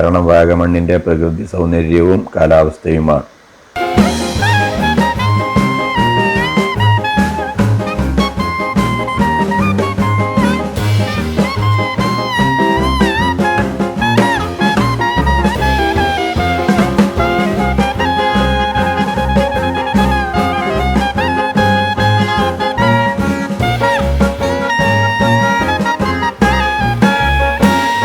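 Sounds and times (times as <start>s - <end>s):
drum kit: 3.8s - 28.0s
saxophone-like brass lead: 3.8s - 28.0s
walking bass: 3.8s - 28.0s.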